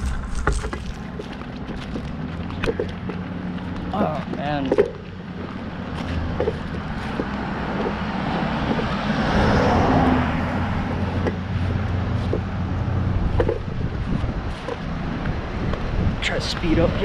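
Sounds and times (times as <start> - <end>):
car passing: 0.0 - 17.0
traffic rumble: 0.0 - 17.0.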